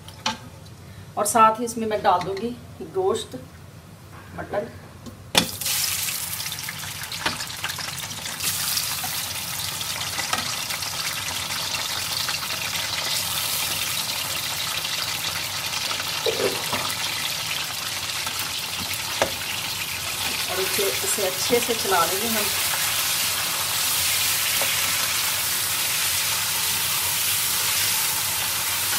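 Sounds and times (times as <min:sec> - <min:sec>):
meat sizzling in hot oil: 0:05.4 - 0:28.9.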